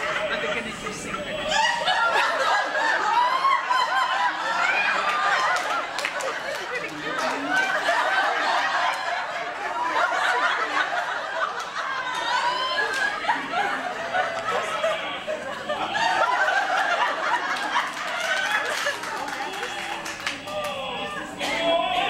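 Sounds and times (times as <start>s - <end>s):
audience chattering: 0.0s - 22.0s
audience laughing: 0.0s - 22.0s.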